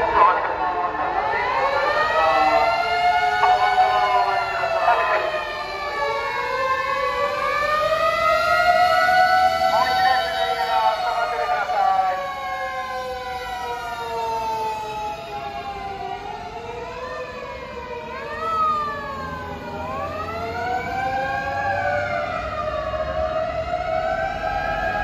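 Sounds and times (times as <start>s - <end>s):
fire engine sirens wailing: 0.0s - 25.0s.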